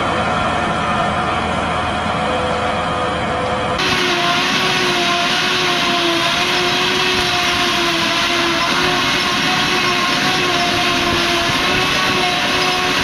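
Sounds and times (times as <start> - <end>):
forage harvester drone and whine: 0.0 - 13.0.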